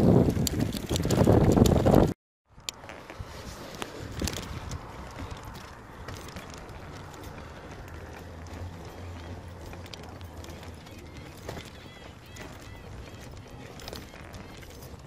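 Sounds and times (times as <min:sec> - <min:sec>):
bicycle tyre and wind noise: 0:00.0 - 0:15.0.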